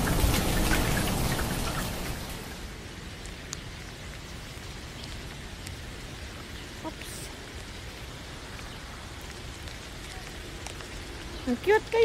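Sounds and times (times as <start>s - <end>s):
raindrops ticking close by: 0.0s - 12.0s
steady rain hiss: 0.0s - 12.0s.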